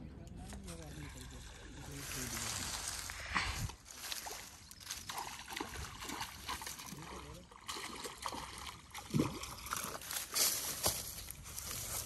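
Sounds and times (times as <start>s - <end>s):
water sloshing and trickling: 0.7s - 12.0s.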